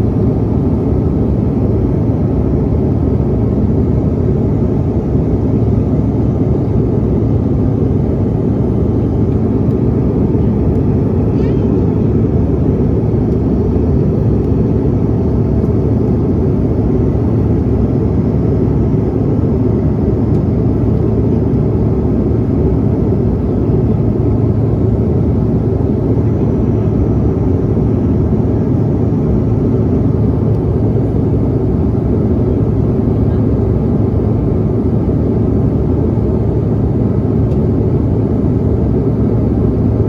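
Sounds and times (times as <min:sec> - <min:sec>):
jet engine drone in cabin: 0:00.0 - 0:40.0.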